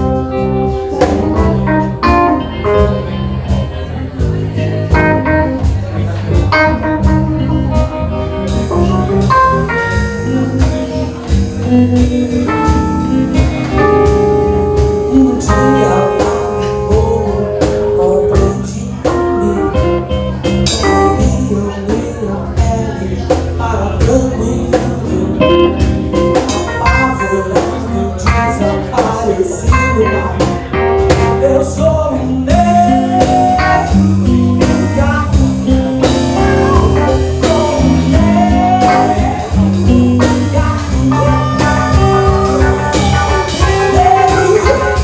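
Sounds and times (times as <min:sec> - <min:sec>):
lead guitar melody: 0:00.0 - 0:45.0
regular drum beat: 0:00.0 - 0:45.0
steady bass line: 0:00.0 - 0:45.0.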